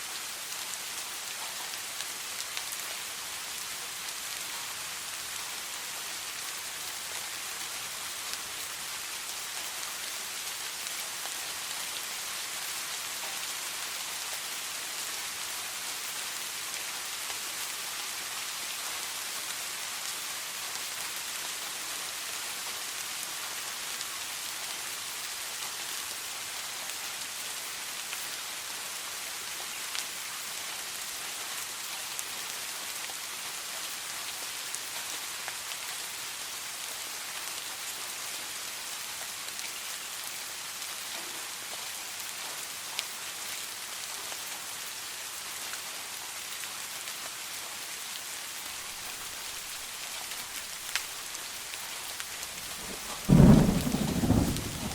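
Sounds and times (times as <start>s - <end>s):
rain pattering on surfaces: 0.0s - 54.9s.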